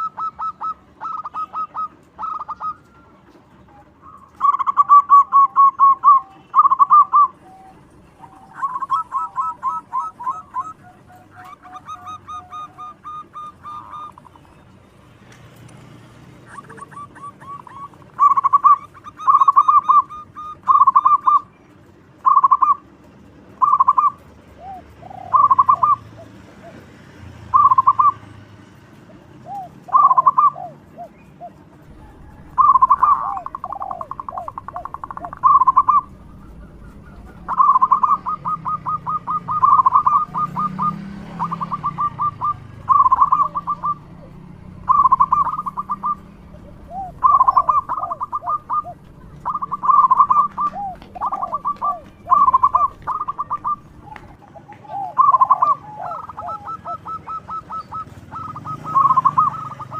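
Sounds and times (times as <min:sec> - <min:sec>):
dove cooing: 0:00.0 - 0:15.0, 0:16.1 - 0:21.6, 0:22.2 - 0:22.9, 0:23.6 - 0:26.9, 0:27.5 - 0:28.4, 0:29.0 - 0:59.9.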